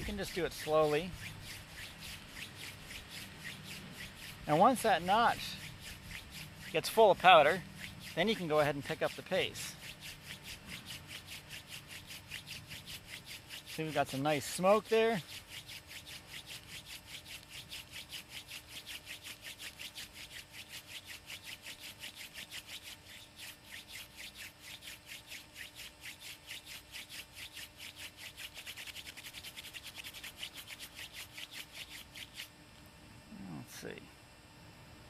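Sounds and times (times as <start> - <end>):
palms rubbing wooden spindle: 0.0 - 32.5.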